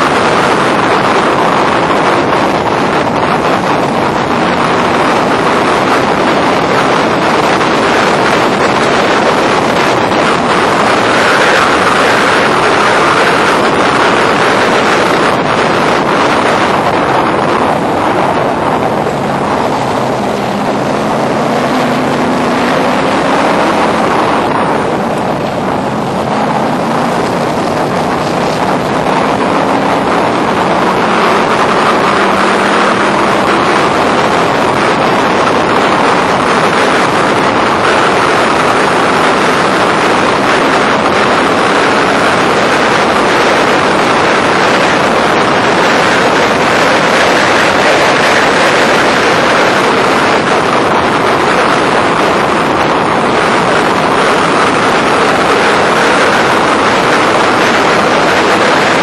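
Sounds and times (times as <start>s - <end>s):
race car engine running hard: 0.0s - 59.0s
wind noise on microphone: 0.0s - 59.0s.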